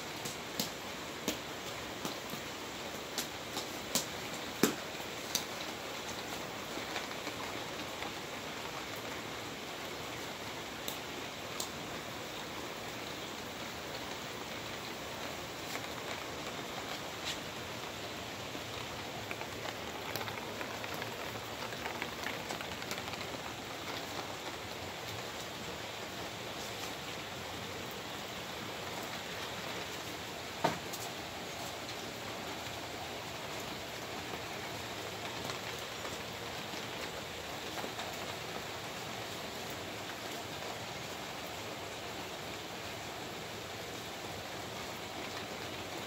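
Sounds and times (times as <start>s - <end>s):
rain on concrete: 0.0s - 46.0s.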